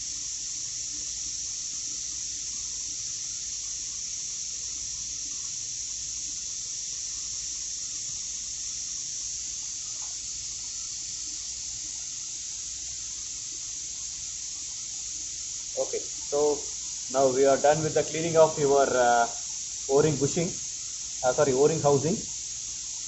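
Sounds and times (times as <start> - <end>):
high-pitched hiss: 0.0 - 23.0.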